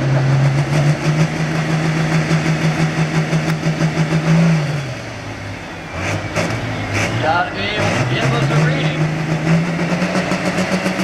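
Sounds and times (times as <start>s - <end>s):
tractor diesel engine running hard: 0.0s - 11.0s.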